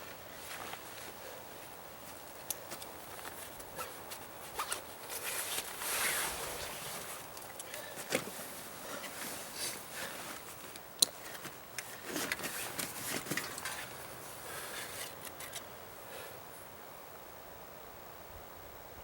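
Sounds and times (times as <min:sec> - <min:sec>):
clothing rustling: 0:00.0 - 0:15.7.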